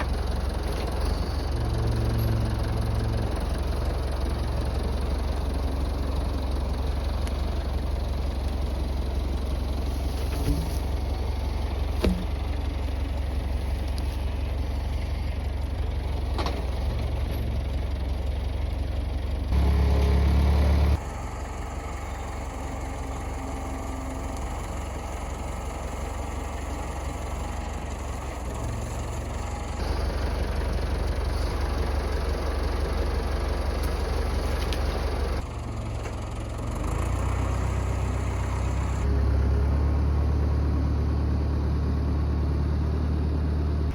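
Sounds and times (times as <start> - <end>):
tractor engine low rumble: 0.0 - 43.9.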